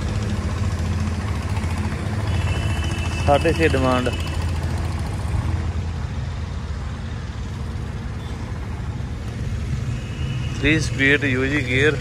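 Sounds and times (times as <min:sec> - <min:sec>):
tractor engine idling: 0:00.0 - 0:09.8.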